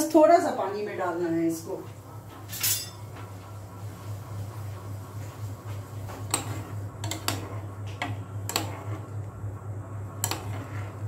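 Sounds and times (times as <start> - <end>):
hob low hum: 0.5 - 11.0.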